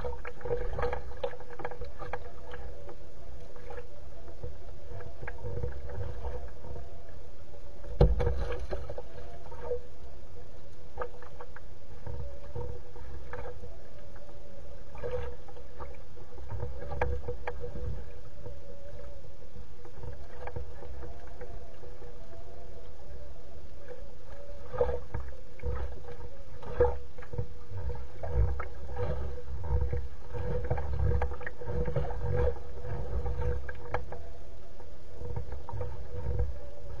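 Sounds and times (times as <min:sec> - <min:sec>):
faint steady hum: 0:00.0 - 0:37.0
small waves lapping: 0:00.0 - 0:37.0
wind rumbling on microphone: 0:00.0 - 0:37.0.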